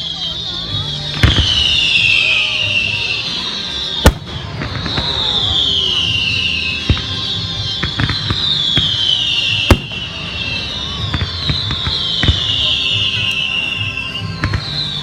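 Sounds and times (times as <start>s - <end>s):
fireworks bangs: 0.0s - 15.0s
fireworks whistle falling in pitch: 0.0s - 15.0s.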